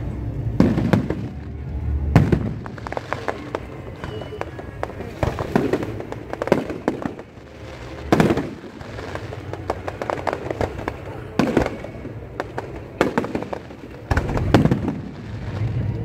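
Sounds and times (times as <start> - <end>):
fireworks booming: 0.4 - 16.0
fireworks crackling pops: 0.5 - 16.0.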